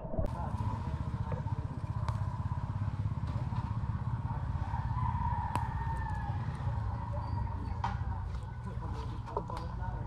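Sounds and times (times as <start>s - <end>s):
small engine running: 0.3s - 9.3s.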